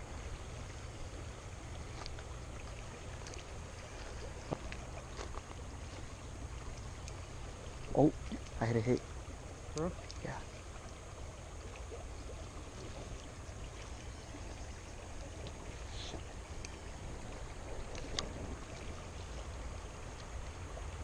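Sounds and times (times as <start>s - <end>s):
river water over rocks: 0.0s - 21.0s.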